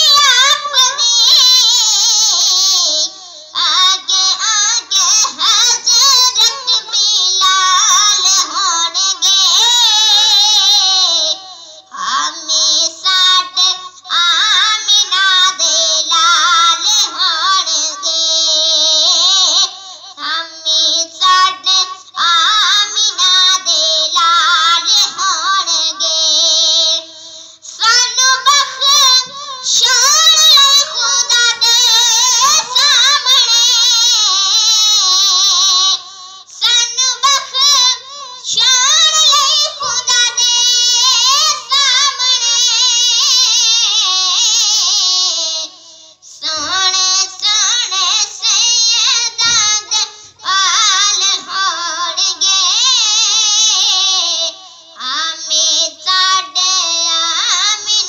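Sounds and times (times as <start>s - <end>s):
boy singing unaccompanied: 0.0s - 58.0s.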